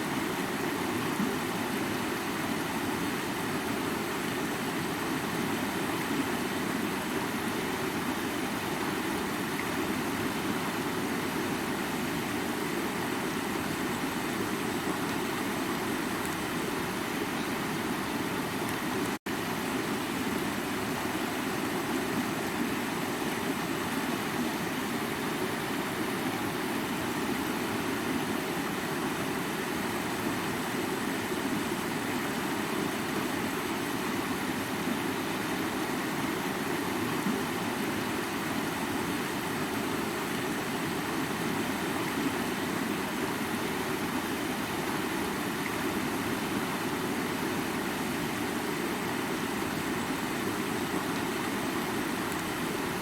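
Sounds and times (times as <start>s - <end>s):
creek water flowing: 0.0s - 53.0s.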